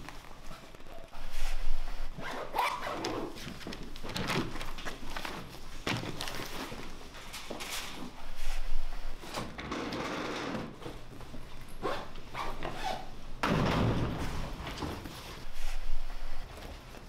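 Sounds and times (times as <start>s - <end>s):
shuffling footsteps: 0.0s - 9.6s, 10.8s - 13.4s, 14.2s - 17.0s
rustling of bags and clothing: 0.0s - 17.0s.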